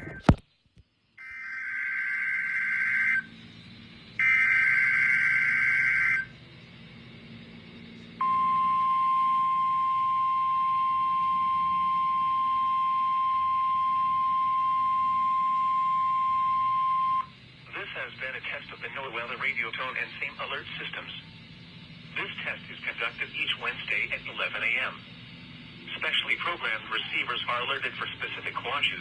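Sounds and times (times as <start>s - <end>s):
screechy digital data tones: 1.2s - 29.0s.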